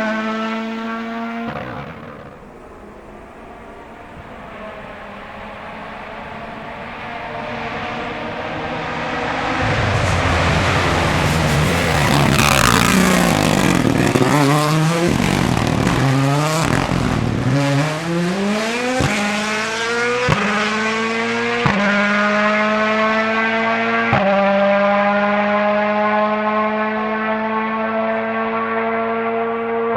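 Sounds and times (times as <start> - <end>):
rally car engine accelerating: 0.0 - 29.9.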